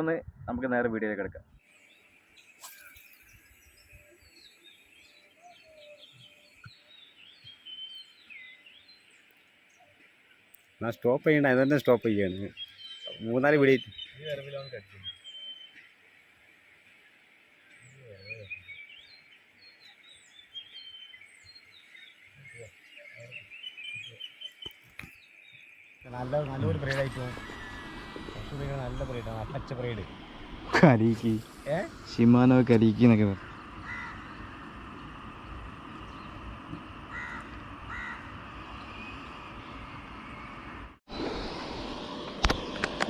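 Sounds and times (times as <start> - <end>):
faint birds chirping: 0.0 - 42.8
steady high-pitched hiss: 1.6 - 43.0.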